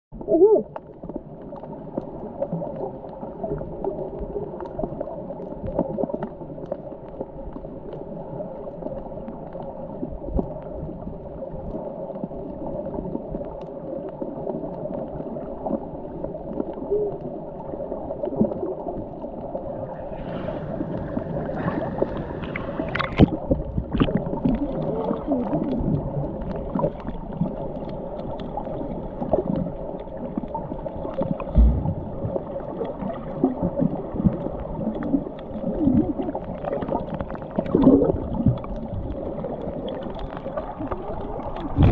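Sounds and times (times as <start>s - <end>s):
water gurgling underwater: 0.1s - 41.9s.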